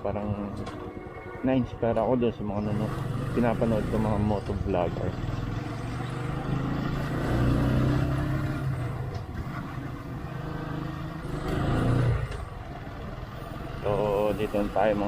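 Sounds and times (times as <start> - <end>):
road and wind noise: 0.0 - 15.0
motorcycle engine running: 2.4 - 15.0.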